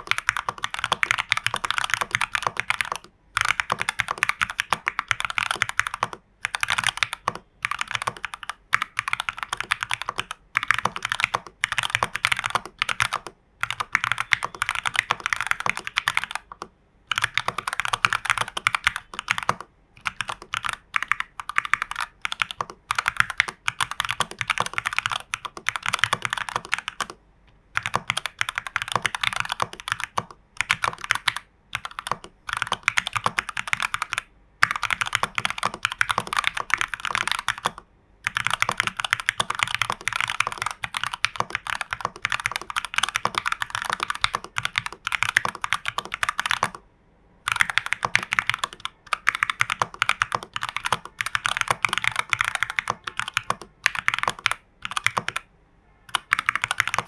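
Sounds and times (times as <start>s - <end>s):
mechanical keyboard typing: 0.0s - 27.2s, 27.8s - 46.8s, 47.5s - 55.5s, 56.1s - 57.0s.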